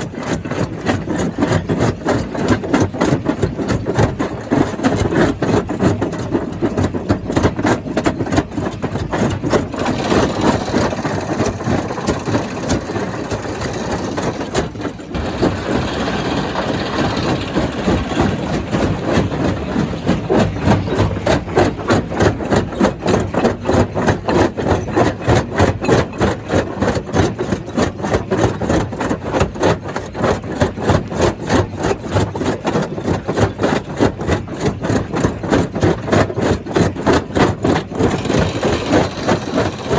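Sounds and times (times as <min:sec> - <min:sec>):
stone crusher rhythmic din: 0:00.0 - 0:39.9.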